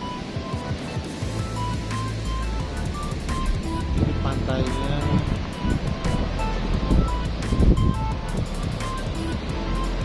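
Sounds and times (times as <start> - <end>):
background music: 0.0 - 10.0
surf: 0.0 - 10.0
wind rumble: 0.0 - 10.0.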